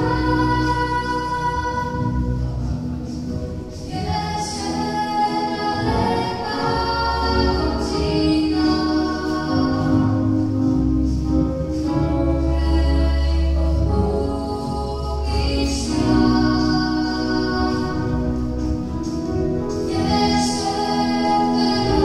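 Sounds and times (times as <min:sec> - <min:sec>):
children's choir singing: 0:00.0 - 0:22.0
electronic keyboard with bass notes: 0:00.0 - 0:22.0.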